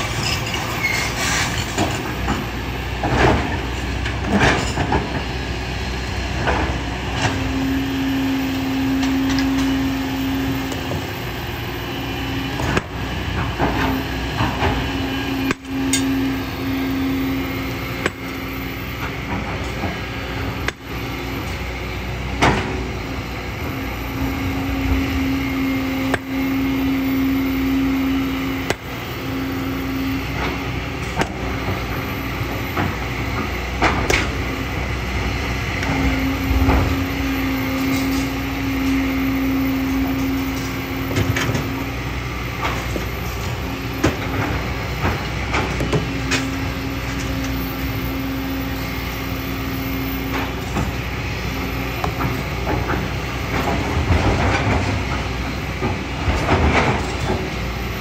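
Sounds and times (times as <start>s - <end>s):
diesel engine running: 0.0s - 58.0s
hydraulic hum: 0.0s - 58.0s.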